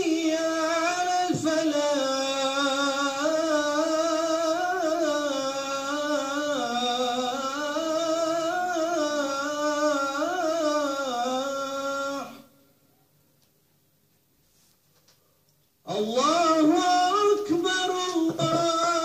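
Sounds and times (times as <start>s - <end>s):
man chanting call to prayer: 0.0s - 12.6s, 15.9s - 19.0s.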